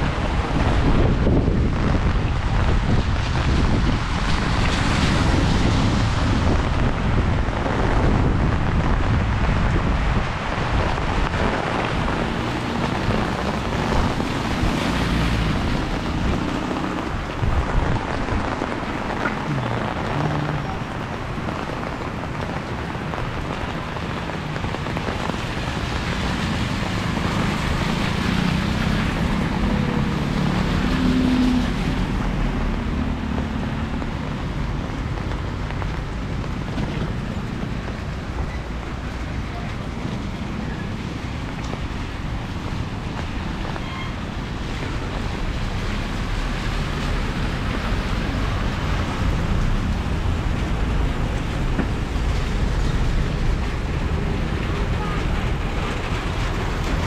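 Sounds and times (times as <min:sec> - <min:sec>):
steady rain falling: 0:00.0 - 0:57.0
wind rumbling on microphone: 0:00.0 - 0:57.0.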